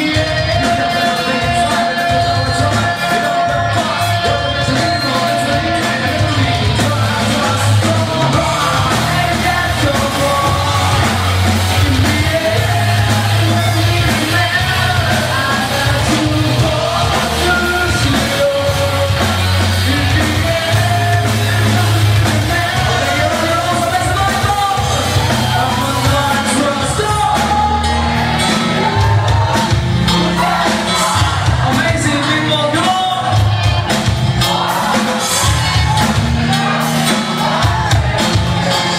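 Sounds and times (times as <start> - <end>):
bass guitar: 0.0 - 38.9
drums: 0.0 - 38.9
electric guitar: 0.0 - 38.9
person singing: 0.0 - 38.9.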